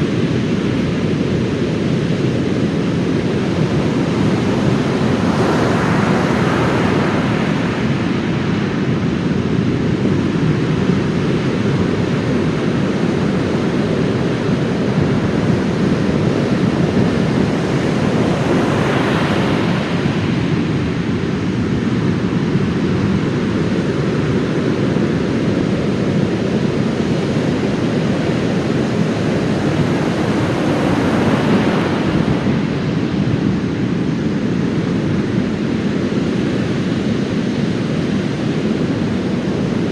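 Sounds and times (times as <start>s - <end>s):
surf rushing: 0.0s - 22.2s, 22.8s - 35.2s.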